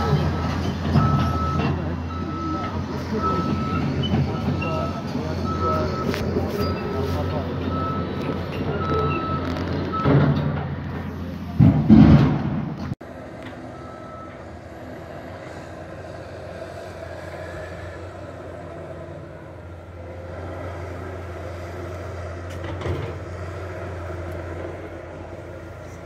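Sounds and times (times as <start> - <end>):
excavator diesel engine drone: 0.0 - 26.0.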